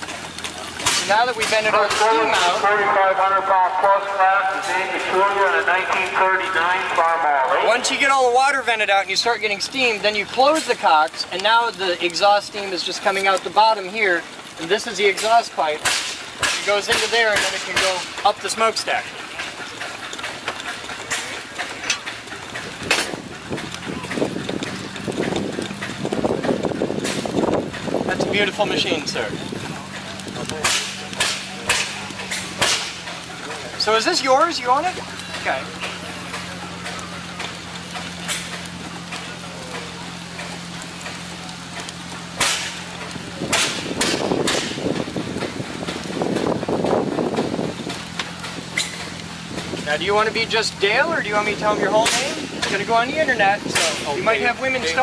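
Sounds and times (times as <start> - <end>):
bursts of rushing noise: 0.0 - 55.0
steam engine chuffing: 0.0 - 55.0.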